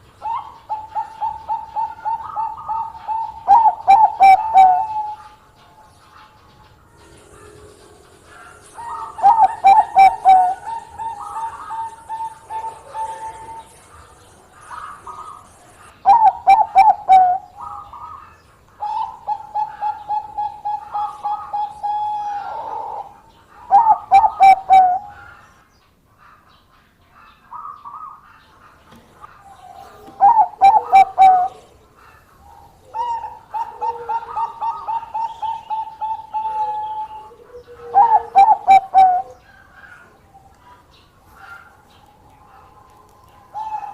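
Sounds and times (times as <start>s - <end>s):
dove cooing song: 0.0s - 25.6s, 27.5s - 43.9s.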